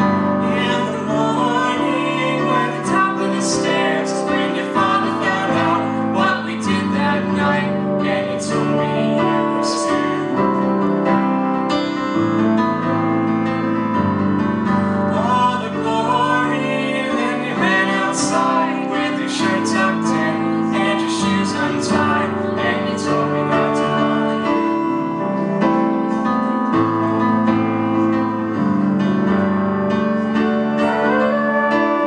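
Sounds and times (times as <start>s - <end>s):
person singing: 0.0s - 11.4s, 14.9s - 29.4s, 30.0s - 32.0s
live band music with piano: 0.0s - 32.0s.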